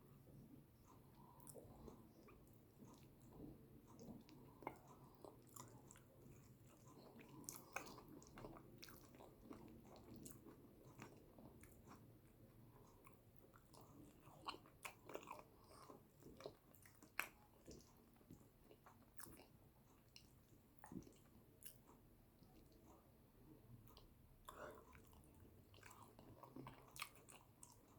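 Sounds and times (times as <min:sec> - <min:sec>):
close chewing mouth clicks: 0:00.9 - 0:23.0, 0:23.9 - 0:27.9.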